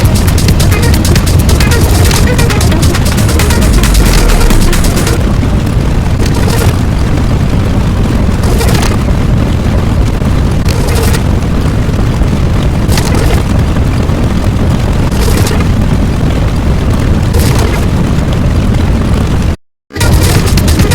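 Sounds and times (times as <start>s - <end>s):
explosion rumble: 0.0s - 20.9s.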